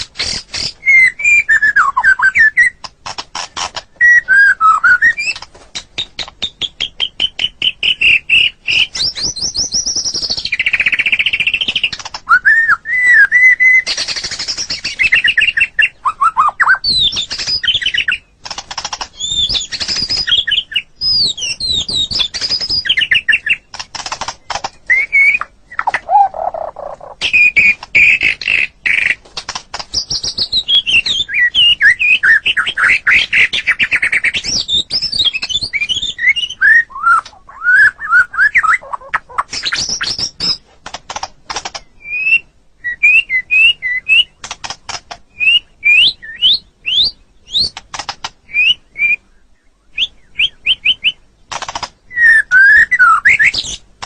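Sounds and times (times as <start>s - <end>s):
bird singing: 0.0s - 40.6s, 41.6s - 53.9s.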